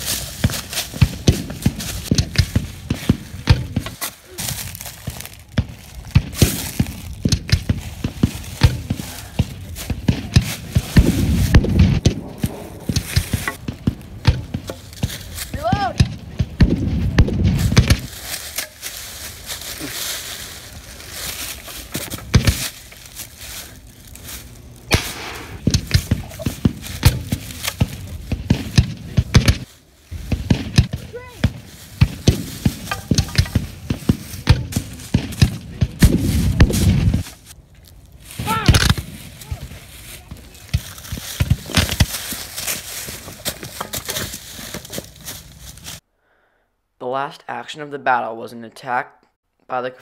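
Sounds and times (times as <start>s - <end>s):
children dropping onto leaves: 0.0s - 46.0s
footsteps crunching dry leaves: 0.0s - 46.1s.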